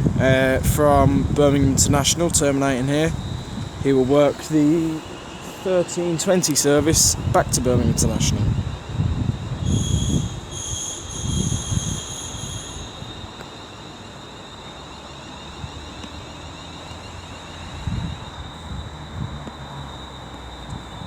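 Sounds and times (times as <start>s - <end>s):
train hum with faint whine: 0.0s - 21.0s
train low rumble: 0.0s - 21.0s
train brakes squealing: 1.8s - 21.0s.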